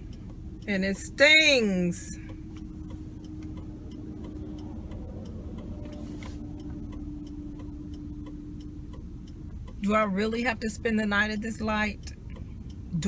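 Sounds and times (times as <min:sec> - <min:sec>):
car engine humming: 0:00.0 - 0:13.0
turn signal ticking: 0:00.0 - 0:13.0.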